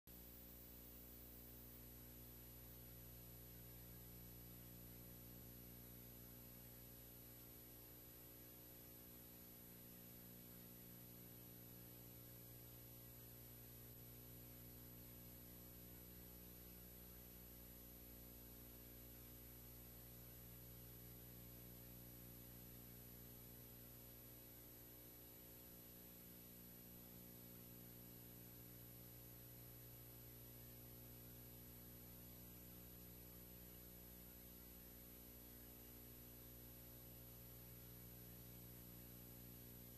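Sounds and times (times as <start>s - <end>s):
faint electrical hum with hiss: 0.1s - 39.9s.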